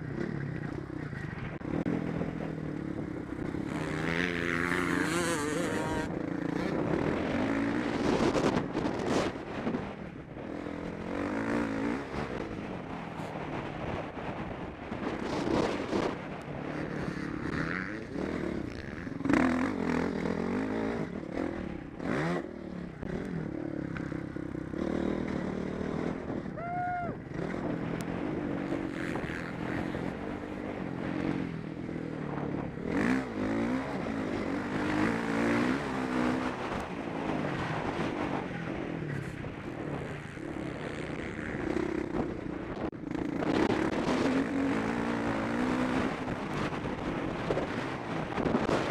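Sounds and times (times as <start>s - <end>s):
motocross bike engine revving: 0.0s - 13.6s, 15.0s - 26.4s, 27.3s - 48.9s.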